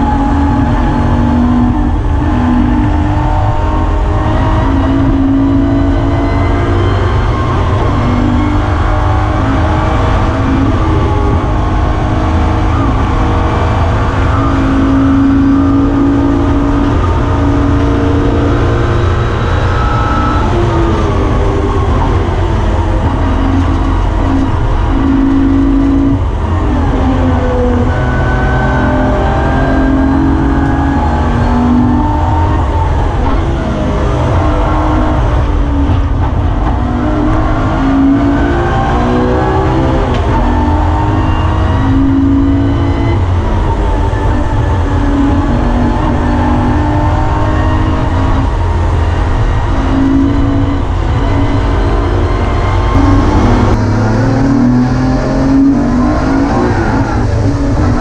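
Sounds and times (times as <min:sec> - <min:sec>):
car engine revving through gears: 0:00.0 - 0:58.0
heavy low rumble: 0:00.0 - 0:58.0.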